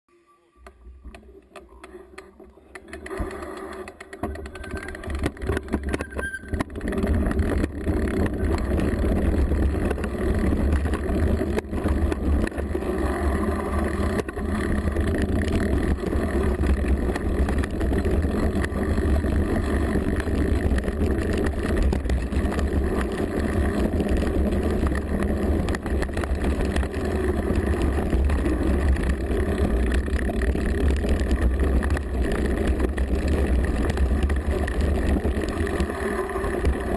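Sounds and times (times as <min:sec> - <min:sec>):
bike rattles and knocks: 0:01.0 - 0:36.9
wind and tyres rumbling: 0:01.0 - 0:36.9.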